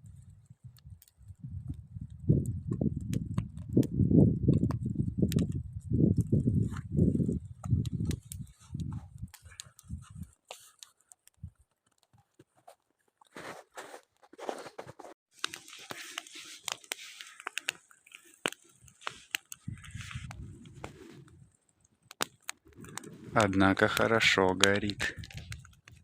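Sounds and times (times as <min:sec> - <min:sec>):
campfire crackling and popping: 0:00.0 - 0:13.6, 0:15.3 - 0:26.0.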